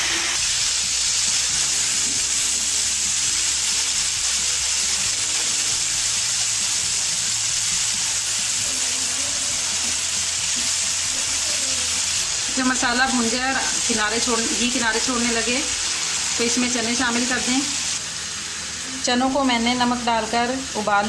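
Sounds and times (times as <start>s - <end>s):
spice paste sizzling in hot oil: 0.0s - 21.0s.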